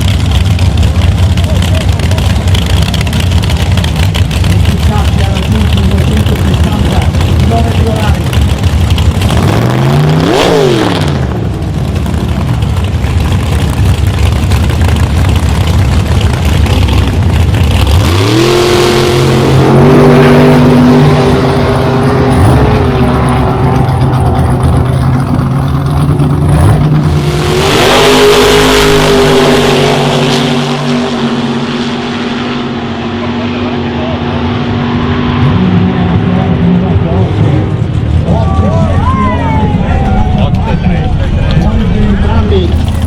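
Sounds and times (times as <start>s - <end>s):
loud car engine revving: 0.0s - 43.0s.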